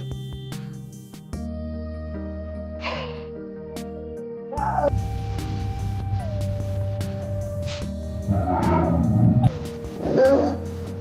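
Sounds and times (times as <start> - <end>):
background music with sliding notes: 0.0 - 11.0.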